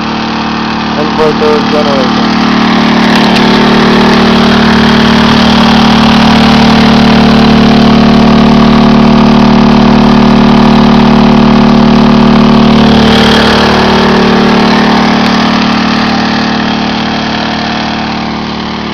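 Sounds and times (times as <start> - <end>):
generator engine running: 0.0 - 18.9.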